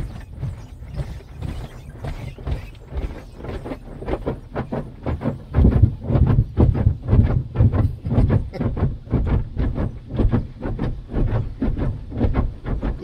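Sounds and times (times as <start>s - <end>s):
car wash thumps and slaps: 0.0s - 13.0s.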